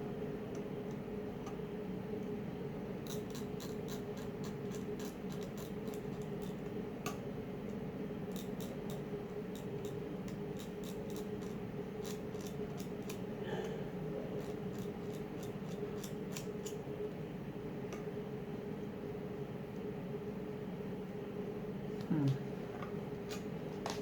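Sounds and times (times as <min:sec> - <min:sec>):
electronics equipment hum: 0:00.0 - 0:24.0.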